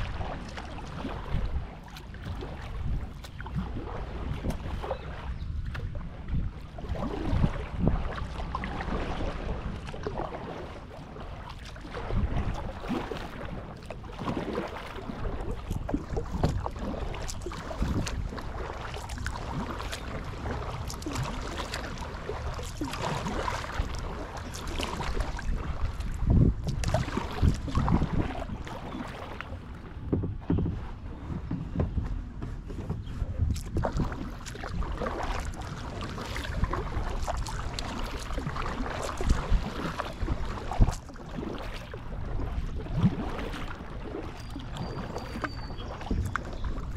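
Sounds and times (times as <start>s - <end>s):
kayak paddle splashing: 0.0s - 46.9s
wind rumble on microphone: 0.0s - 46.9s.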